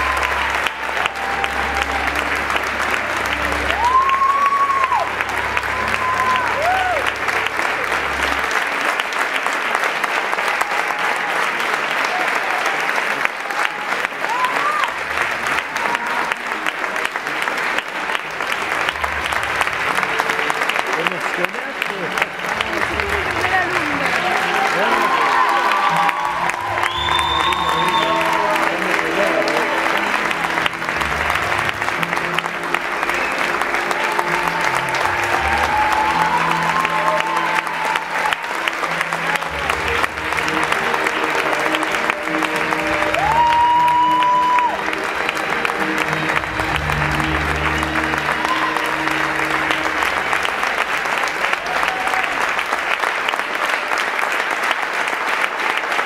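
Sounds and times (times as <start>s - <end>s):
music playing: 0.0s - 10.2s, 14.3s - 54.1s
audience applauding: 0.0s - 56.0s.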